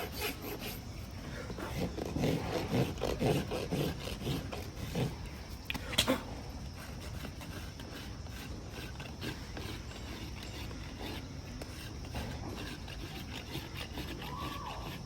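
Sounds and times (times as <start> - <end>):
rasp filing hoof: 0.0 - 5.6, 6.6 - 15.0.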